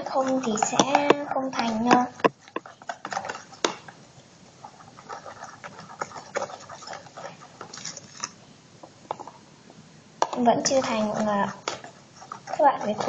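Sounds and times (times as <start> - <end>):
slime being stirred in a bowl: 0.0 - 4.0, 4.6 - 8.4, 10.3 - 13.0.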